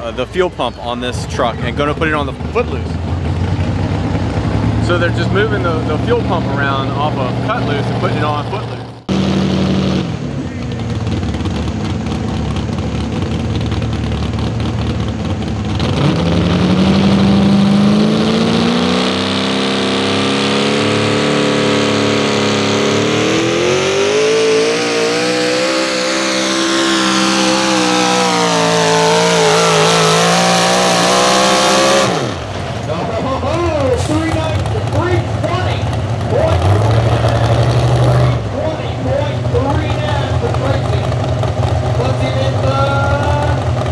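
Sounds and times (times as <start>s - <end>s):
truck engine revving under load: 0.0s - 43.9s.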